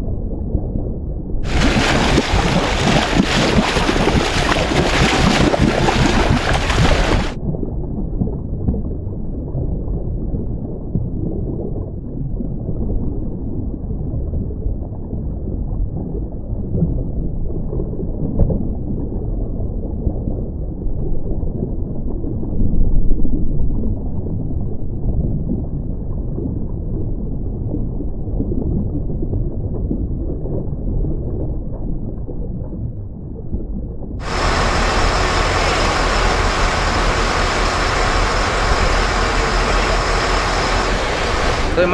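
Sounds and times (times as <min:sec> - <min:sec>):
muffled underwater rumble: 0:00.0 - 0:41.9.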